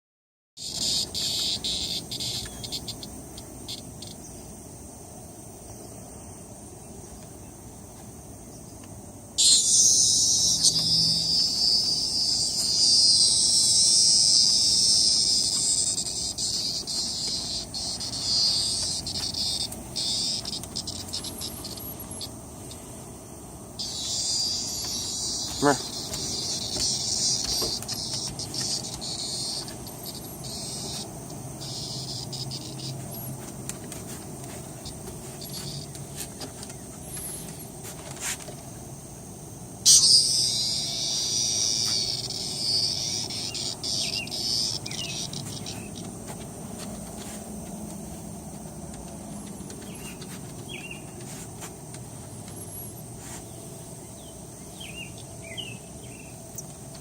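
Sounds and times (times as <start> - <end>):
cicada buzzing: 0.6 - 57.0.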